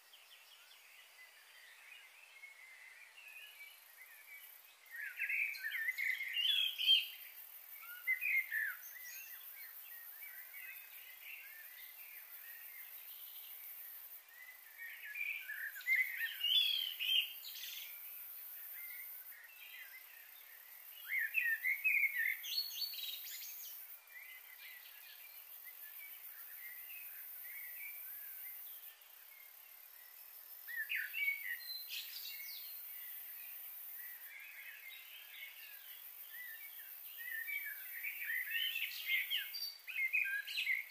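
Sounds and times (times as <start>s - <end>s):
faint outdoor hiss: 0.0s - 40.9s.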